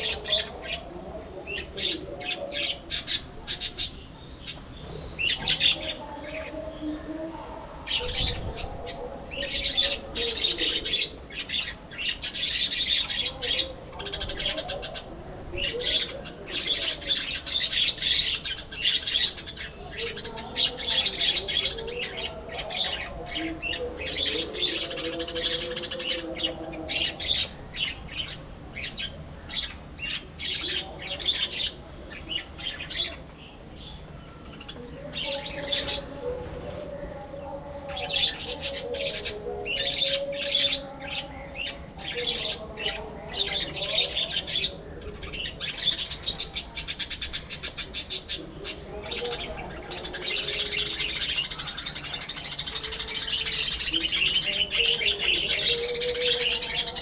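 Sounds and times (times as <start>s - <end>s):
budgerigars chirping and warbling: 0.0s - 7.0s, 7.8s - 57.0s.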